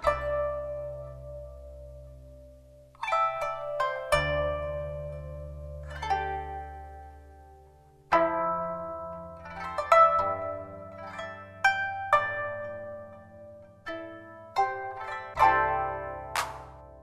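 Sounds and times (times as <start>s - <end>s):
plucked zither notes: 0.0s - 17.0s.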